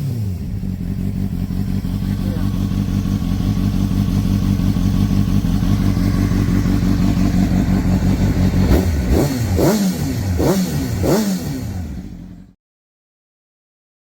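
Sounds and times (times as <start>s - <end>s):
motorcycle engine idling and revving: 0.0s - 12.6s.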